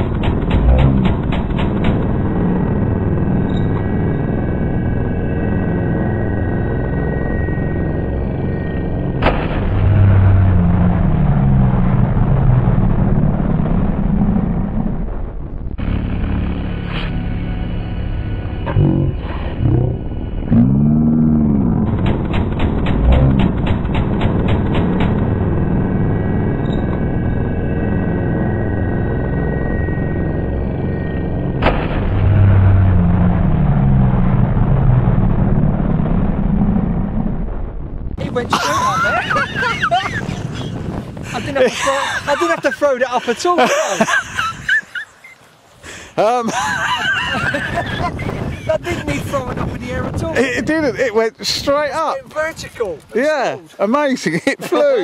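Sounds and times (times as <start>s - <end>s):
low rumble: 0.0s - 45.2s, 45.8s - 54.0s.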